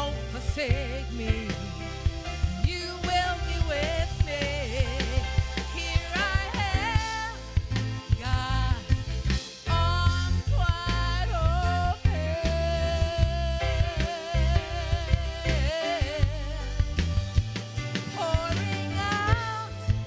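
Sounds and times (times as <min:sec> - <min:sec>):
drum kit: 0:00.0 - 0:20.0
keyboard: 0:00.0 - 0:20.0.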